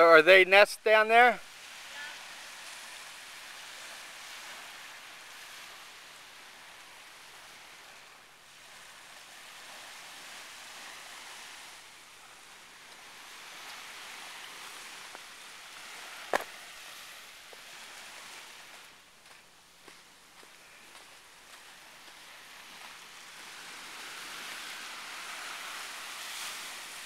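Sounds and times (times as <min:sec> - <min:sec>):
waves breaking on sandy beach: 0:00.0 - 0:27.0.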